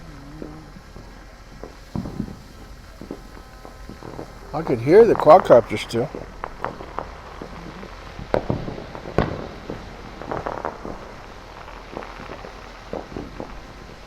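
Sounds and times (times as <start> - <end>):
distant fireworks bangs: 0.0 - 14.0
firecracker pops: 0.0 - 14.0.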